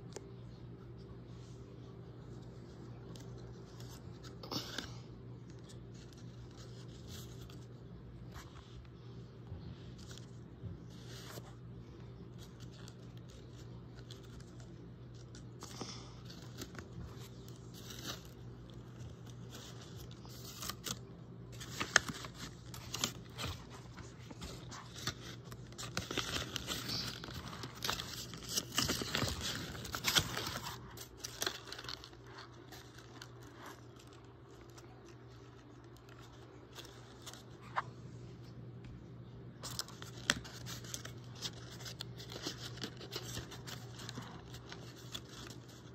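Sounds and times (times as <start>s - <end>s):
faint low hum: 0.0s - 45.9s
paper rustling and crinkling: 0.1s - 38.5s, 39.6s - 45.9s.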